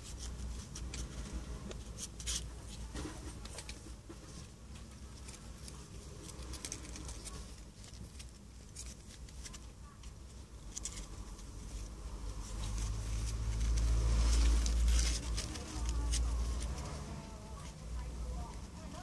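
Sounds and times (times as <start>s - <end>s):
kittens scratching and rustling: 0.0s - 19.0s.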